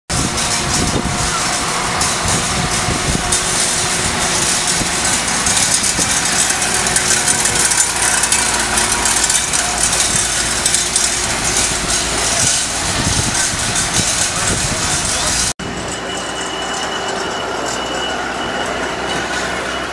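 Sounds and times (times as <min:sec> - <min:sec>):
half-track vehicle driving on gravel: 0:00.1 - 0:19.9.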